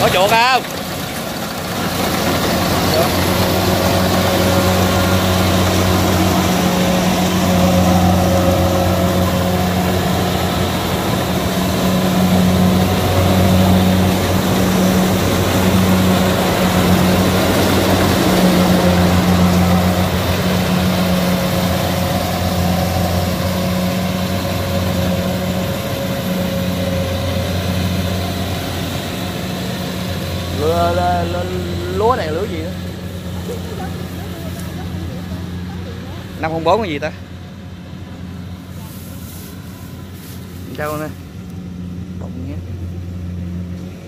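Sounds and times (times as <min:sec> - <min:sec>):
combine harvester diesel engine: 0:00.0 - 0:44.0
mechanical rush of threshing: 0:00.0 - 0:44.0.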